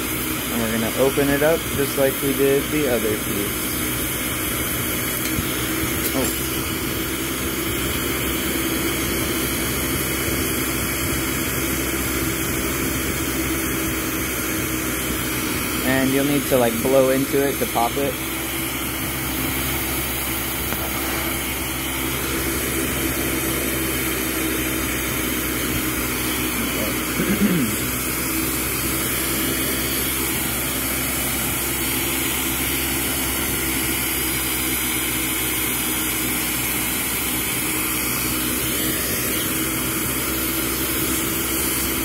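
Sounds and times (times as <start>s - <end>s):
torch flame rushing: 0.0s - 42.0s.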